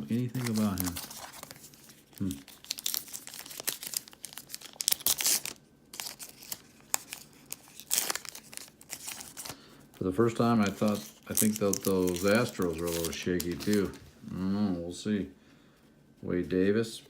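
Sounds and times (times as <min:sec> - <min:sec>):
trading cards rustling: 0:00.0 - 0:14.2.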